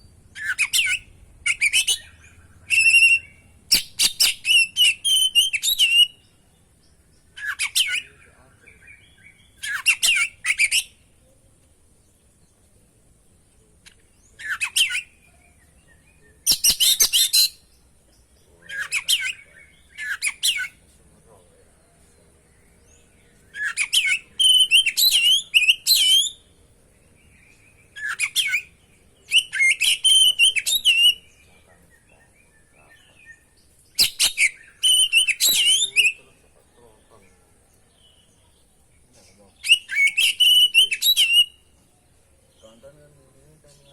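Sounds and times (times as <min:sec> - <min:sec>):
songbird whistling song: 0:00.0 - 0:11.4, 0:13.8 - 0:43.9.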